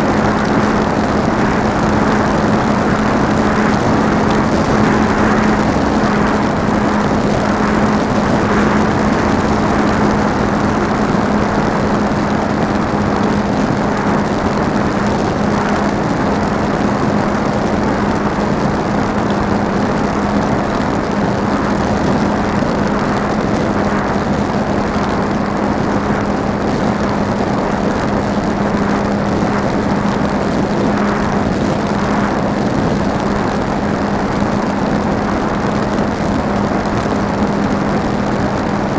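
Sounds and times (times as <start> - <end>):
electric motor and propeller humming: 0.0 - 38.9
wind on microphone: 0.0 - 38.9.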